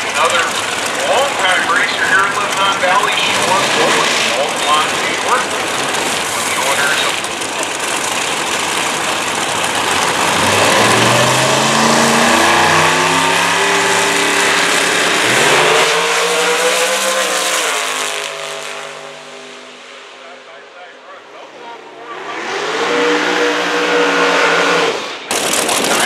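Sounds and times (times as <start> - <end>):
race car engines at full throttle: 0.0 - 26.0.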